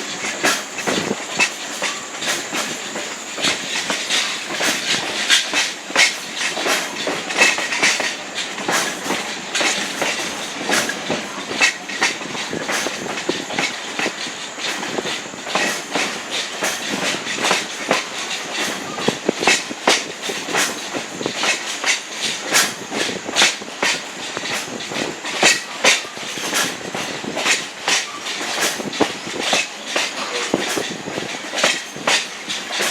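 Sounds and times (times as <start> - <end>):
rattle of moving train car: 0.0 - 32.9
train wheels clicking over rail joints: 0.0 - 32.9.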